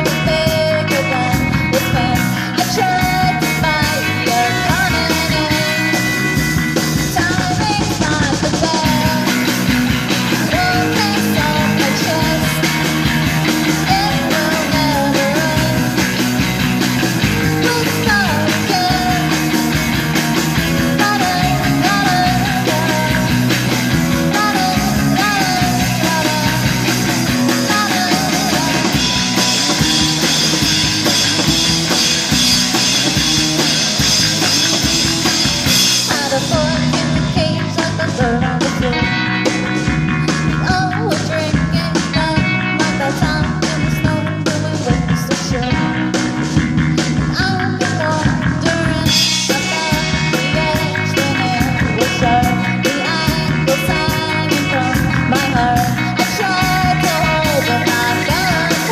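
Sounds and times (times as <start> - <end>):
person singing: 0.0 - 32.1, 33.0 - 46.2, 47.2 - 58.9
rock band playing live: 0.0 - 58.9.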